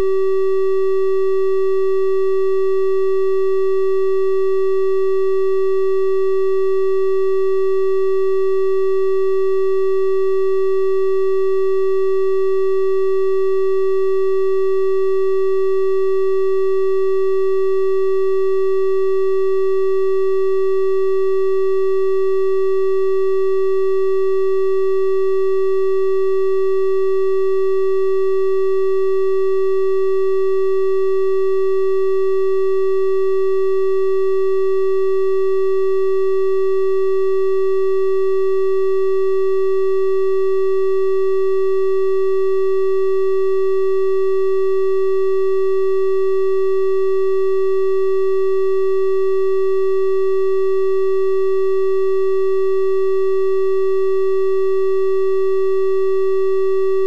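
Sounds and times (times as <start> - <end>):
steady triangle-wave test tone: 0.0 - 57.0.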